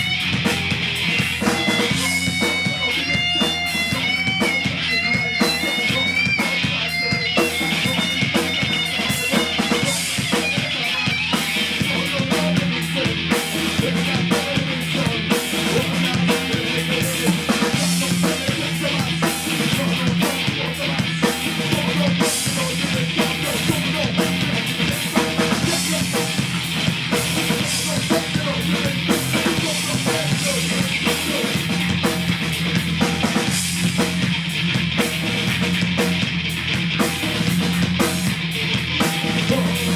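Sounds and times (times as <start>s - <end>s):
drum kit beat: 0.0s - 39.9s
rock band playing: 0.0s - 39.9s.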